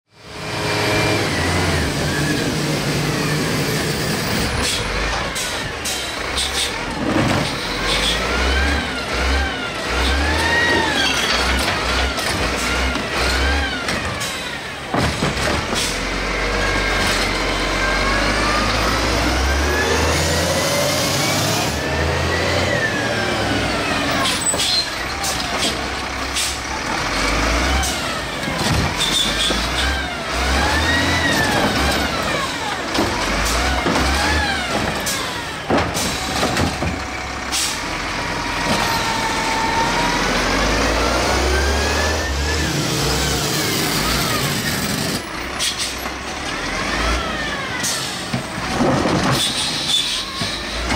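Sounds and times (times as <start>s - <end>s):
truck engine revving: 0.2s - 50.9s.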